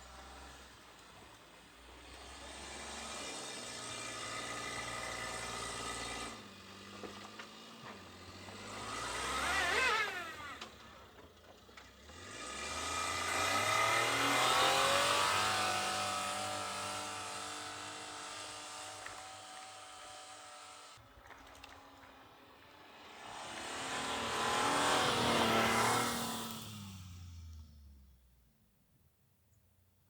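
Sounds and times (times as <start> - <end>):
motor vehicle engines passing: 0.0 - 28.2.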